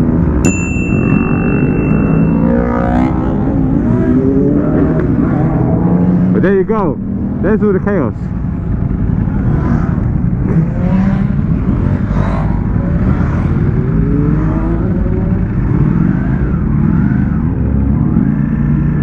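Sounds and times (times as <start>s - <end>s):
motorbike engines revving: 0.0s - 19.0s.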